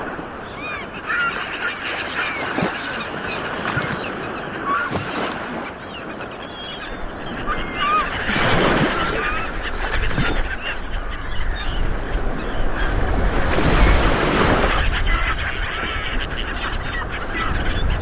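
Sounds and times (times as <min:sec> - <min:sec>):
waves breaking: 0:00.0 - 0:16.2
bird calls: 0:00.0 - 0:18.0.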